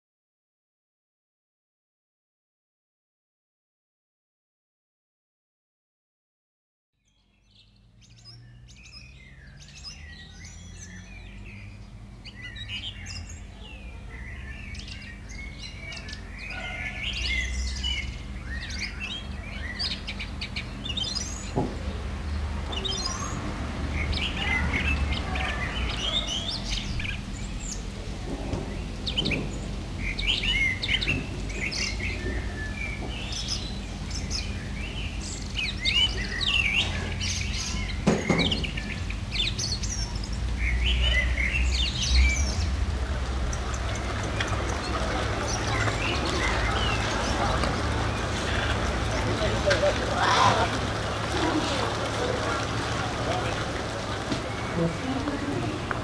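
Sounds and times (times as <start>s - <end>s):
birds chirping and trilling: 7.0s - 56.0s.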